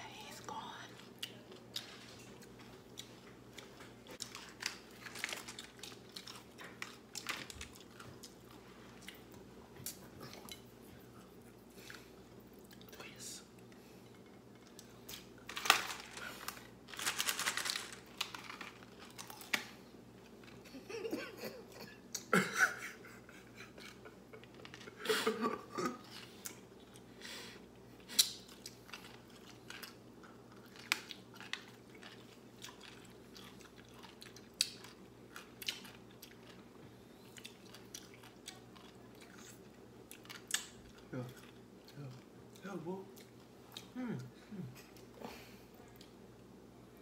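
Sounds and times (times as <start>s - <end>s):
chewing and crunching pickles: 0.8s - 12.9s, 13.5s - 20.9s, 25.6s - 46.6s.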